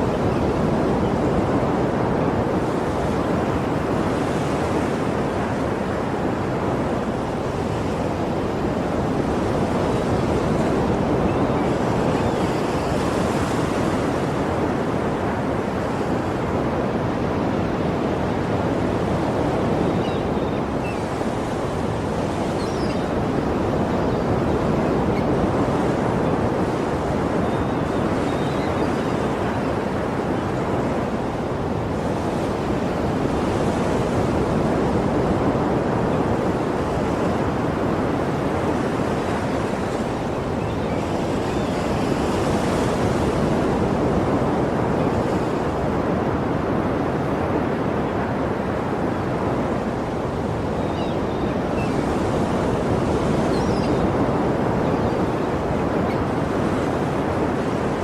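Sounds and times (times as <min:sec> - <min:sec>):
sea waves breaking: 0:00.0 - 0:58.0.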